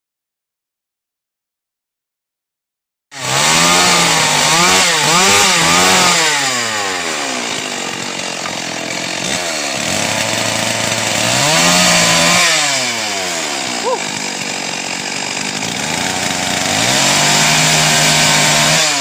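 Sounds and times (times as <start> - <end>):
chainsaw cutting wood: 3.2 - 19.0
chainsaw revving: 3.2 - 19.0.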